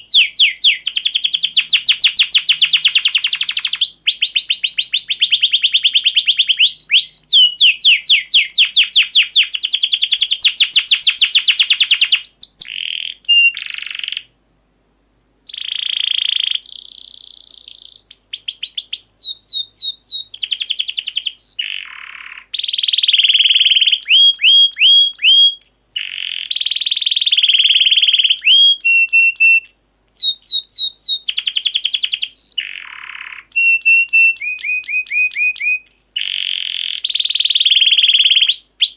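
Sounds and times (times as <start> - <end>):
canary singing trills: 0.0 - 14.3, 15.5 - 38.9.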